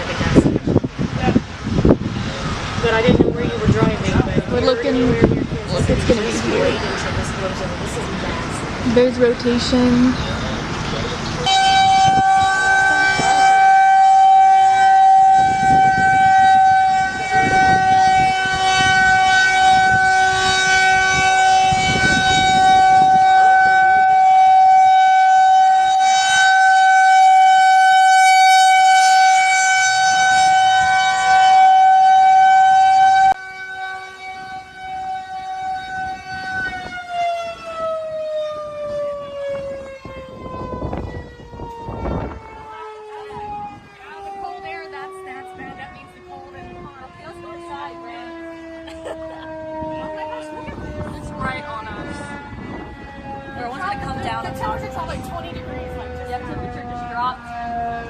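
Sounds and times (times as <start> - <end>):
tornado warning siren: 0.0 - 58.0.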